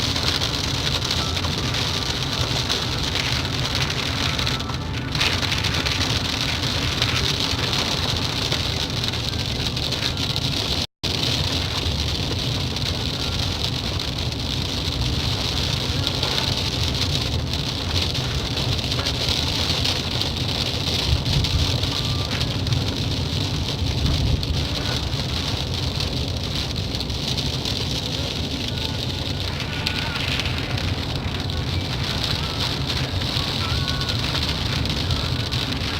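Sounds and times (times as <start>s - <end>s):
rain hissing: 0.0s - 35.9s
traffic on a wet road: 0.0s - 35.9s.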